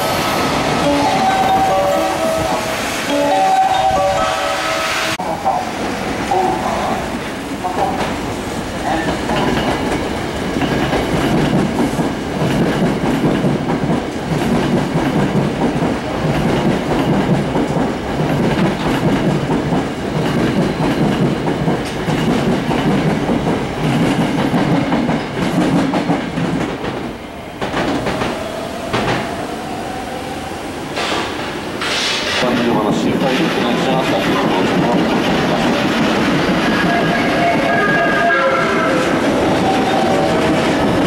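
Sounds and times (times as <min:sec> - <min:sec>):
electric train passing: 0:00.0 - 0:41.0.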